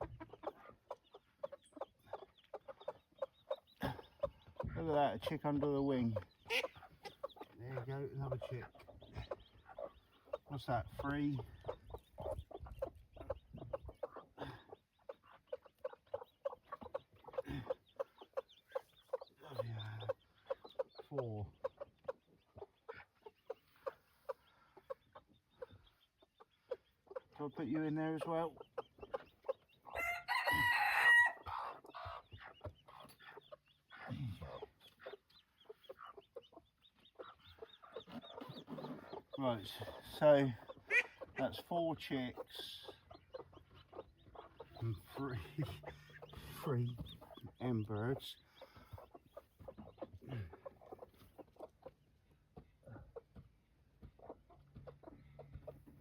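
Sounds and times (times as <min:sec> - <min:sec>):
chicks peeping: 0:00.0 - 0:56.0
hens clucking: 0:00.0 - 0:56.0.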